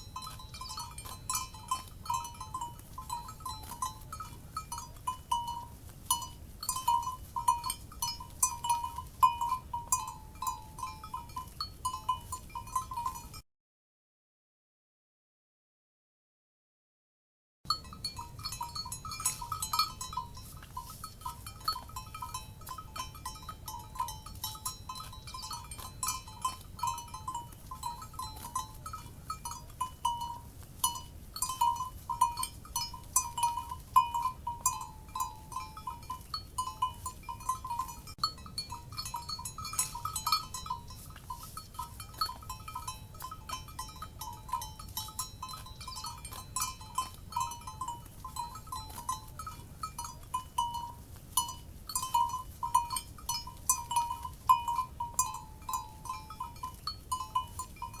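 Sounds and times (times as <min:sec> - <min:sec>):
cowbells clanking: 0:00.0 - 0:13.4, 0:17.7 - 0:58.0.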